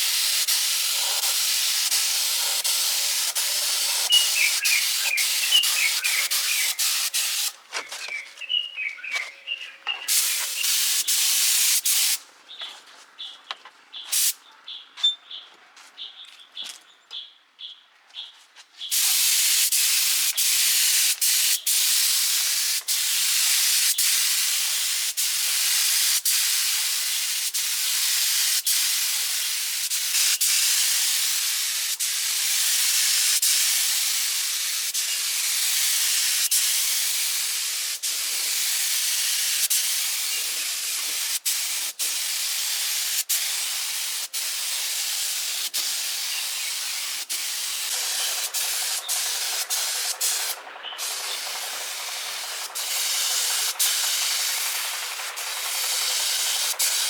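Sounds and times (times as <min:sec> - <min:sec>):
compressed air hissing: 0:00.0 - 0:12.2, 0:14.1 - 0:14.4, 0:18.9 - 0:57.0.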